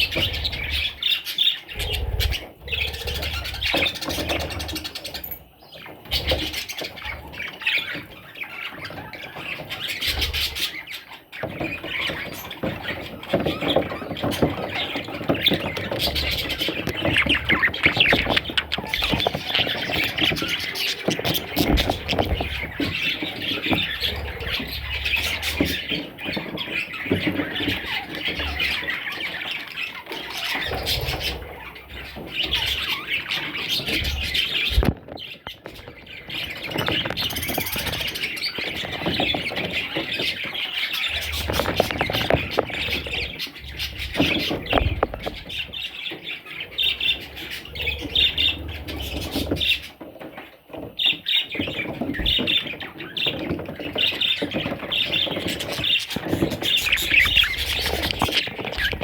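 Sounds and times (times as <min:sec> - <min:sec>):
budgerigars chattering and squawking: 0:00.0 - 0:59.0.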